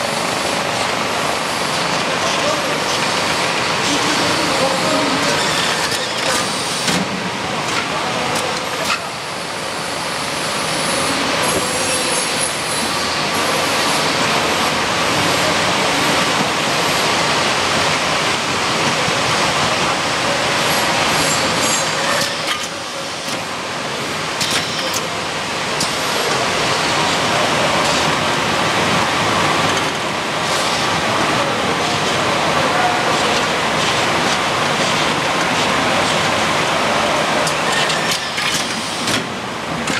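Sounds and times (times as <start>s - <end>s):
loud machinery noise: 0.0s - 39.9s.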